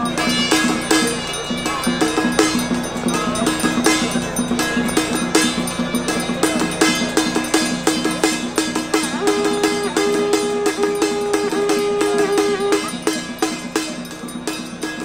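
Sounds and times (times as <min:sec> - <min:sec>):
hand drums beating fast rhythm: 0:00.0 - 0:15.0
wavering melody line: 0:00.0 - 0:15.0.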